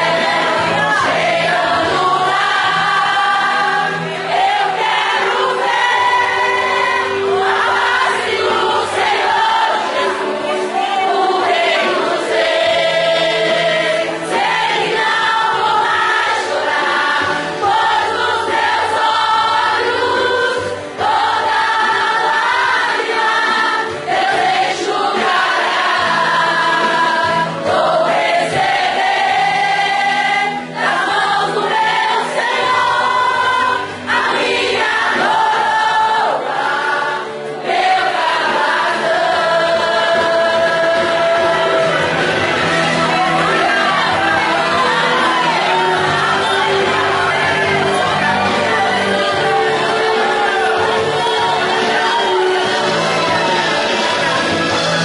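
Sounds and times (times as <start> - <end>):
women's choir singing gospel: 0.0 - 55.0.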